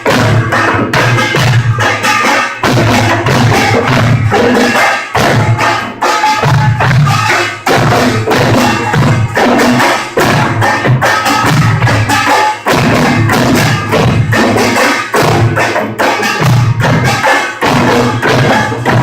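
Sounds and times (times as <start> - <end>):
gongs and drums beating: 0.0 - 19.0.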